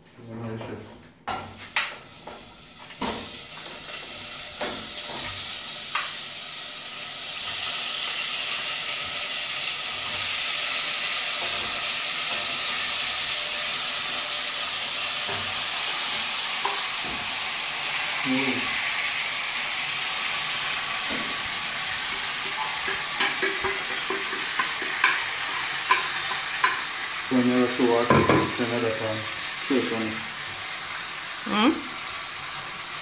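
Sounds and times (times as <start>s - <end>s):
meat sizzling in a pot: 1.3s - 33.0s.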